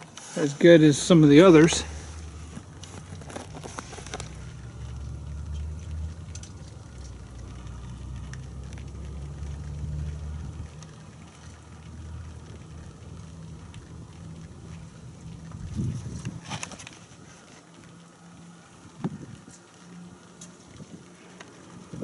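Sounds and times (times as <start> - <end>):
low steady rumble: 0.0 - 22.0
snow foam crackling and dripping: 0.0 - 22.0.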